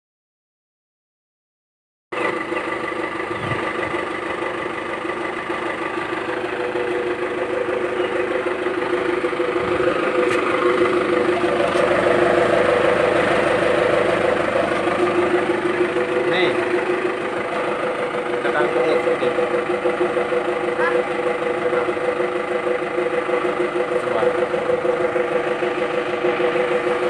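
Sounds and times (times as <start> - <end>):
engine idling through exhaust: 2.1 - 27.0.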